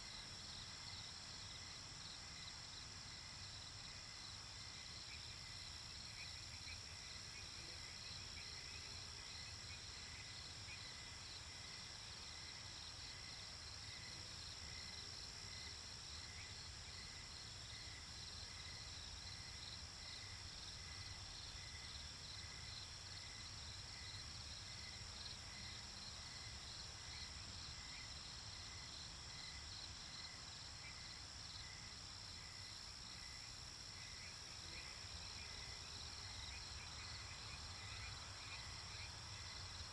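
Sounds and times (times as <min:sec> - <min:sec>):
crickets chirping: 0:00.0 - 0:39.9
white noise hiss: 0:00.0 - 0:39.9.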